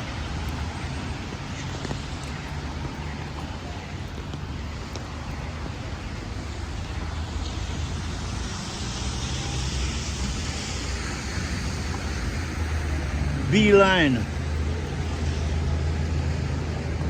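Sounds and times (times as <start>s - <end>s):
traffic rumble: 0.0s - 17.0s
tyre hiss on wet road: 0.0s - 17.0s.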